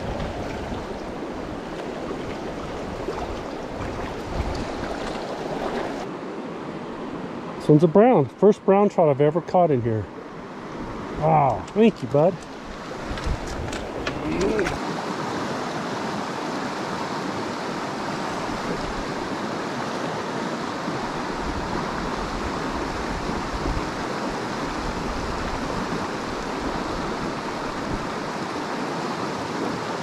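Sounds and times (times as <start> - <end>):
stream rushing over rocks: 0.0 - 6.4, 11.0 - 30.0.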